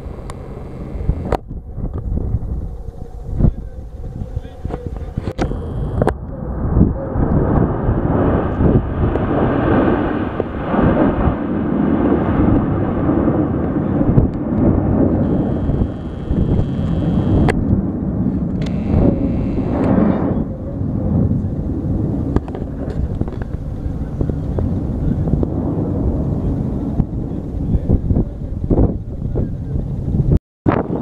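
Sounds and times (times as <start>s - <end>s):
fighter jets flying over: 0.0s - 31.0s.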